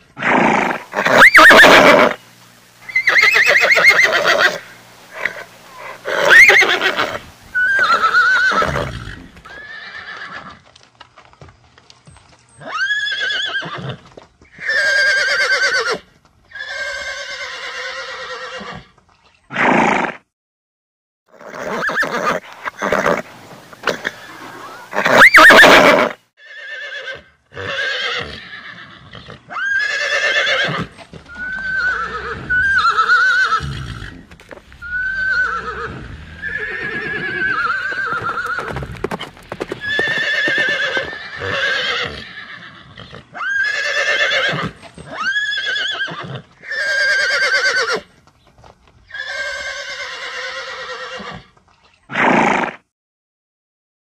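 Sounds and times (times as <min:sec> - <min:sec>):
horses whinnying and neighing: 0:00.1 - 0:10.7, 0:12.6 - 0:20.2, 0:21.3 - 0:48.2, 0:49.0 - 0:52.8.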